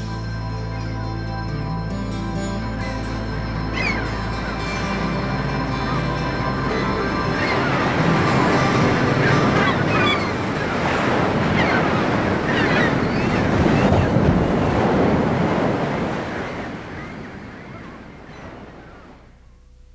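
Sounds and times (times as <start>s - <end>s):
sea surf washing: 2.2s - 19.3s.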